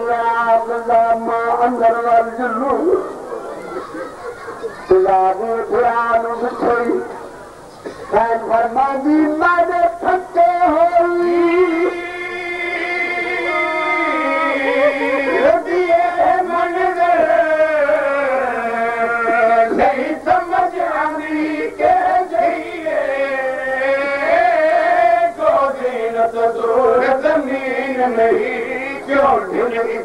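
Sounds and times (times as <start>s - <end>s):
man chanting through loudspeakers: 0.0s - 3.3s, 4.9s - 7.2s, 8.1s - 30.0s.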